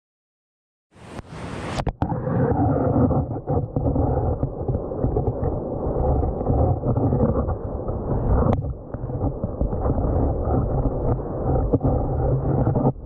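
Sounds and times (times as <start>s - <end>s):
muffled underwater stream rumble: 1.7s - 13.0s.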